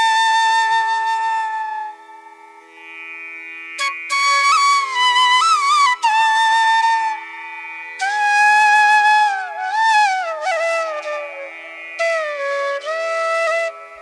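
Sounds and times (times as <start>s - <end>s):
flute playing slow melody: 0.0s - 2.6s, 3.8s - 14.0s
steady drone: 2.1s - 14.0s.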